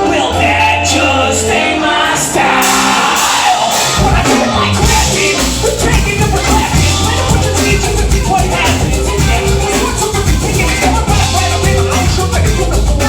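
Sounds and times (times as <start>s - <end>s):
drums: 0.0s - 13.0s
live band playing: 0.0s - 13.0s
person singing: 0.0s - 13.0s
heavy bass line: 2.4s - 13.0s.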